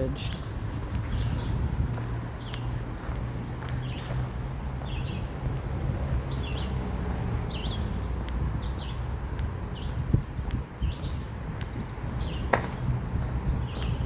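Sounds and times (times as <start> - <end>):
road traffic rumble: 0.0 - 14.0
songbird chirping: 0.0 - 14.0.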